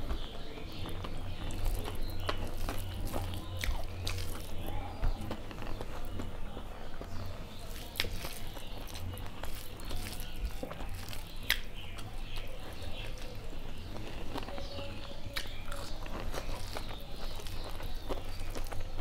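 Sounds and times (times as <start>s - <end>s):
chewing with wet mouth clicks: 0.0s - 19.0s
food squelching mixed by hand: 0.0s - 19.0s.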